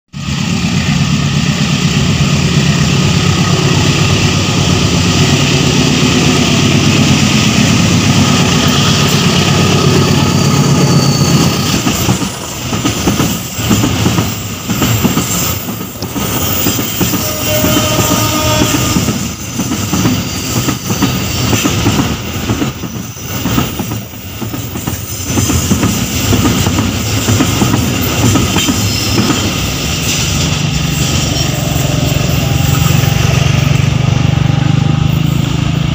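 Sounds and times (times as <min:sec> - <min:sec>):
diesel locomotive engine running: 0:00.2 - 0:35.9.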